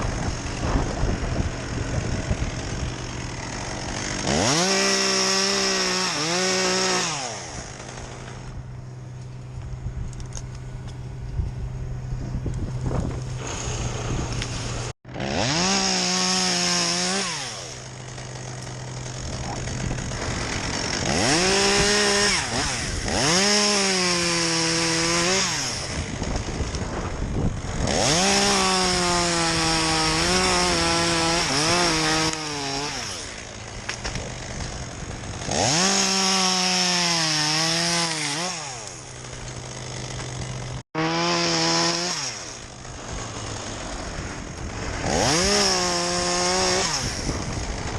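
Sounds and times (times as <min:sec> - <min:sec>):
chainsaw revving and cutting wood: 0:00.0 - 0:47.9.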